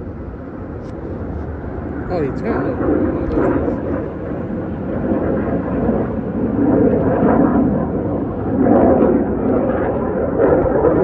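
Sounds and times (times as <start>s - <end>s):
fighter jet flying by: 0.0s - 11.0s.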